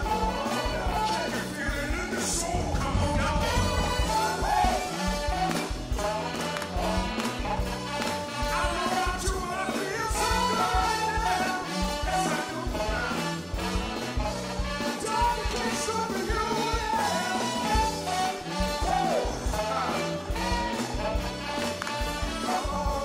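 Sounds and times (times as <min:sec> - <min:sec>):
live soul band playing: 0:00.0 - 0:23.0.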